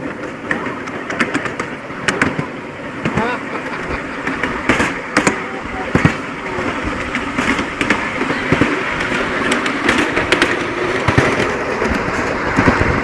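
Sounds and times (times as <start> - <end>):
clicks and clatters: 0.0 - 13.0
miniature train wheels rumbling: 0.0 - 13.0.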